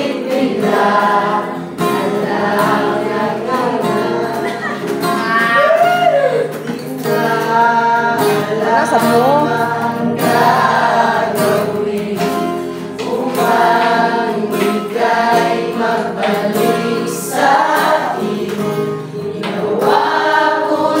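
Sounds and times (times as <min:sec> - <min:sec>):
students singing together: 0:00.0 - 0:21.0.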